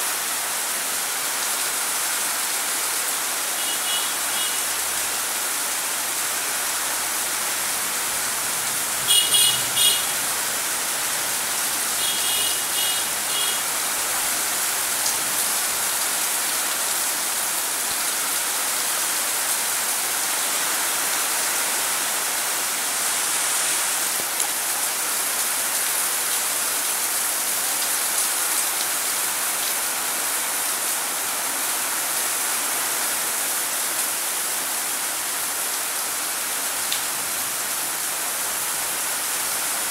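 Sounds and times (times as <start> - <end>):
rain falling on paving: 0.0 - 39.9.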